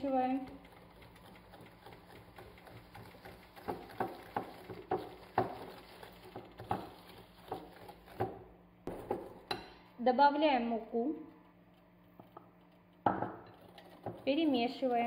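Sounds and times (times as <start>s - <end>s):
soft stirring: 0.0s - 15.0s.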